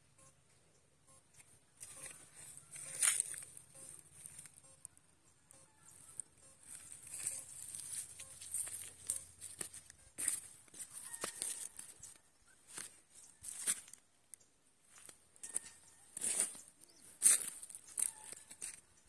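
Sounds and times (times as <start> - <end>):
footsteps on dry soil and grass: 1.4 - 4.6, 5.9 - 14.1, 14.8 - 19.0.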